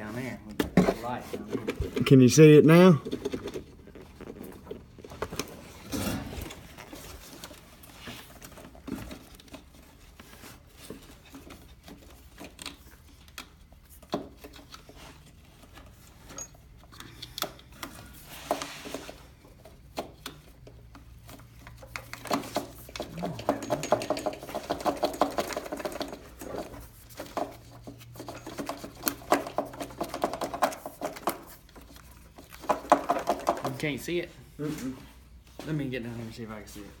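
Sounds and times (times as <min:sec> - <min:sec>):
hands clicking and tapping parts: 0:00.5 - 0:05.5, 0:06.8 - 0:34.0.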